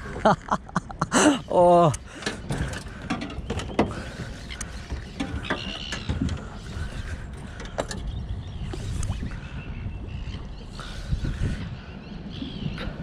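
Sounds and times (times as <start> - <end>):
wind rumbling on microphone: 1.7 - 13.0.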